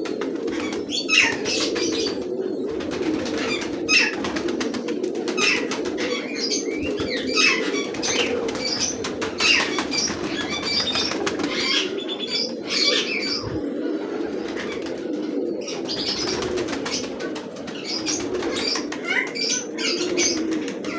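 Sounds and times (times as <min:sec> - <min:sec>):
pigeons flapping wings: 0:00.0 - 0:12.1, 0:14.2 - 0:20.9
pigeons cooing: 0:00.0 - 0:20.9.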